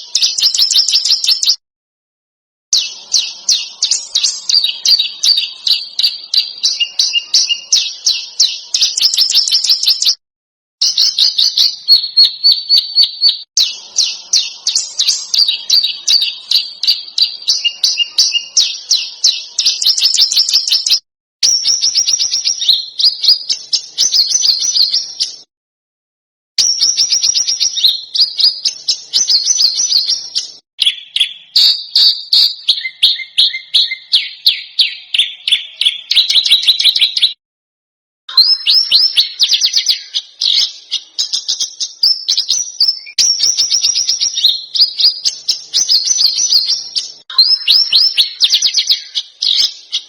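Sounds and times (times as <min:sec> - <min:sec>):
songbird chattering song: 0:00.0 - 0:01.6, 0:02.8 - 0:10.2, 0:10.8 - 0:25.5, 0:26.6 - 0:37.4, 0:38.3 - 0:50.0.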